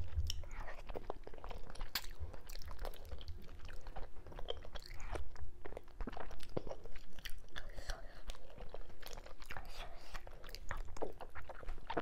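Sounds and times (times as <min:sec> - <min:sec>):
person chewing and smacking: 0:00.0 - 0:12.0.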